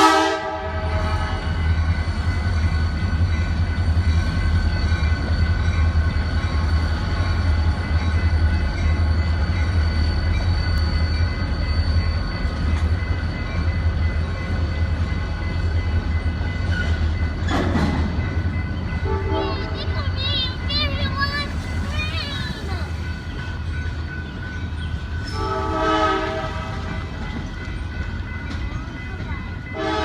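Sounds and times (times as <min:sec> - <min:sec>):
train rumbling past: 0:00.0 - 0:30.0.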